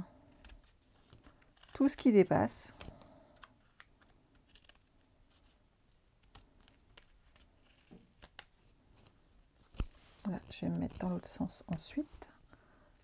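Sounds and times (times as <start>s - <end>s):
small scissors snipping paper: 0.3s - 12.3s.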